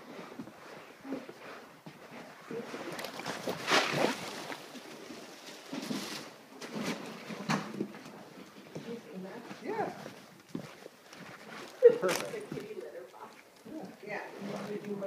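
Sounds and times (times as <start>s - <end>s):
rustling scraping noise: 0.0s - 15.0s.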